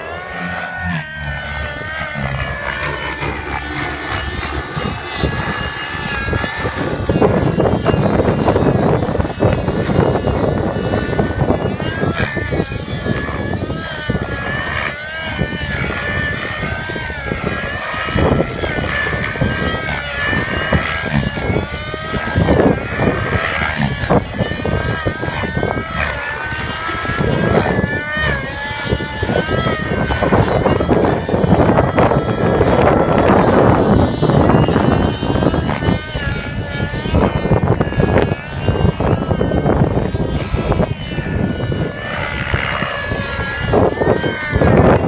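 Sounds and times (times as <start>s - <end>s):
model helicopter engine and rotor: 0.0s - 45.0s
wind rumble on microphone: 0.0s - 45.0s.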